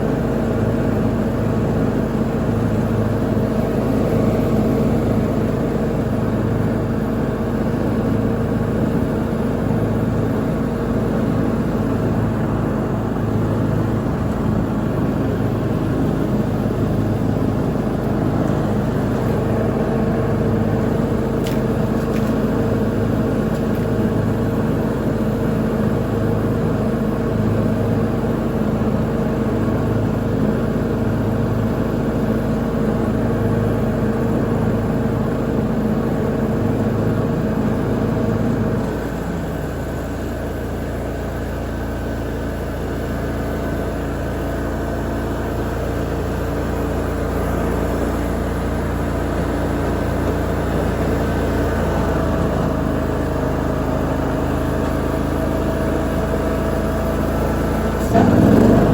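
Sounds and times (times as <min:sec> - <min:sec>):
lawn mower engine running: 0:00.0 - 0:58.9.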